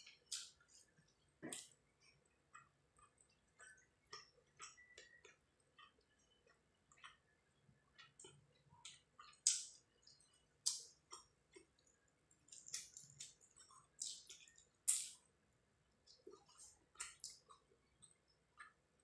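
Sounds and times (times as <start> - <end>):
person chewing food: 0.0 - 15.3, 16.0 - 19.0.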